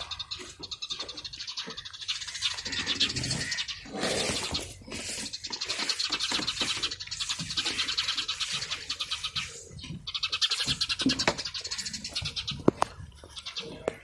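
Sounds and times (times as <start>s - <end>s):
nestling birds begging: 0.0s - 14.0s.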